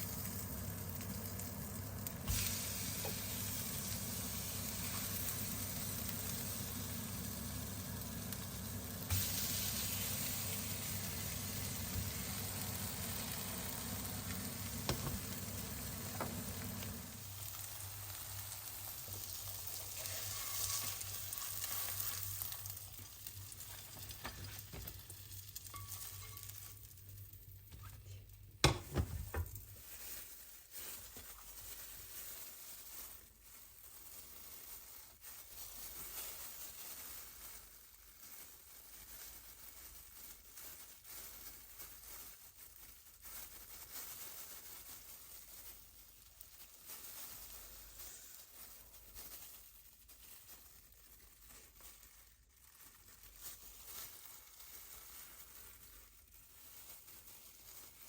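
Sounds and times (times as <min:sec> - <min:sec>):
fish sizzling in oil: 0:00.0 - 0:27.8, 0:28.6 - 0:58.0.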